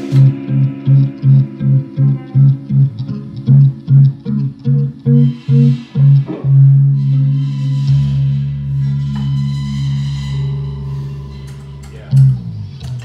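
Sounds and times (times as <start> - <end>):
low bass note: 0.0 - 12.8
cymbals washing: 0.0 - 13.0
electric guitar chord ringing: 0.0 - 13.0.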